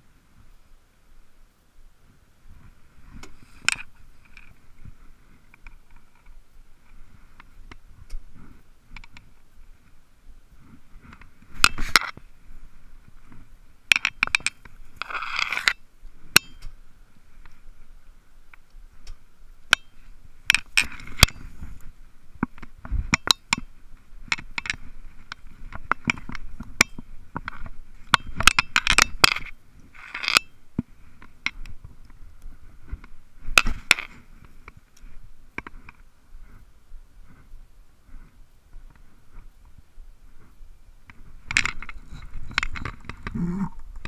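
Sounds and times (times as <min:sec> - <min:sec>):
dry grass crackling underfoot: 0:00.0 - 0:44.0.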